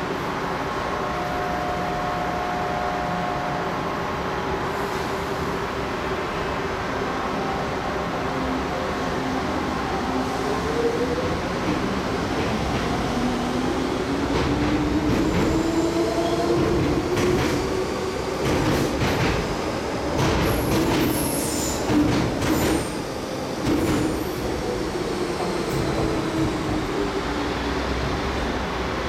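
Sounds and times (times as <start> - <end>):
train rumble and whine: 0.0 - 29.0.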